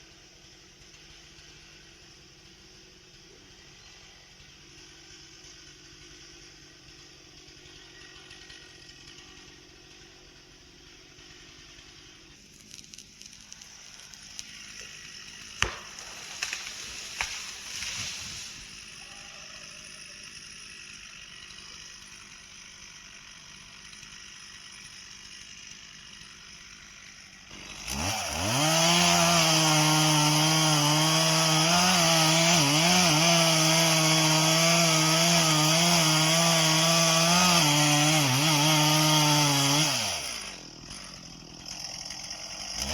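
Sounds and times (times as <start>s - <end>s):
chainsaw revving at high speed: 4.3s - 12.4s, 13.6s - 42.9s.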